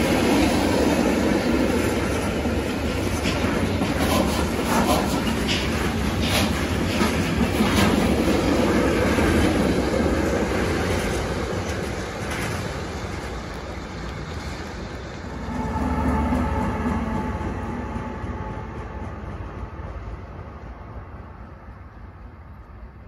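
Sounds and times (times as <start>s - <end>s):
diesel locomotive engine hum: 0.0s - 23.0s
freight train wheels clicking: 0.0s - 23.0s.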